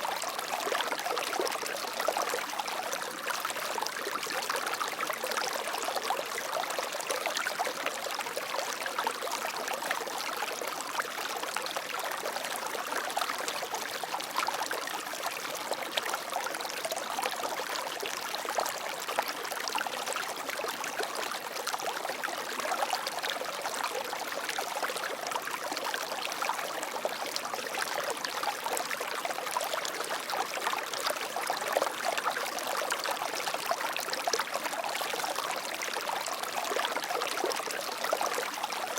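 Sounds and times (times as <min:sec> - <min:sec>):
stream water flowing over stones: 0:00.0 - 0:38.9.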